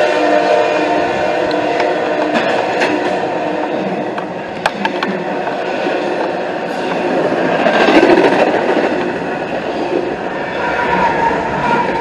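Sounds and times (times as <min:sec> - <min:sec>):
freight train rattling past: 0:00.0 - 0:12.0.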